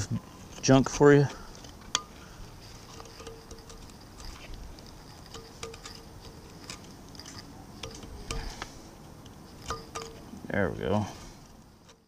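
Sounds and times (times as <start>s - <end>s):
metal casting clicks and scrapes: 1.4s - 10.4s, 11.2s - 12.0s.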